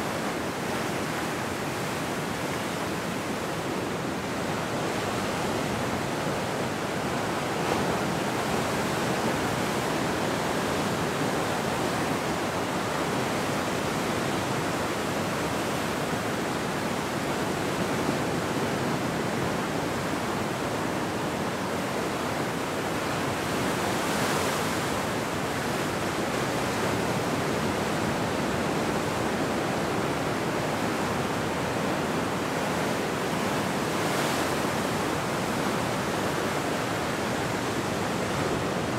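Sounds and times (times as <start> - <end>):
ocean surf washing ashore: 0.0 - 38.9.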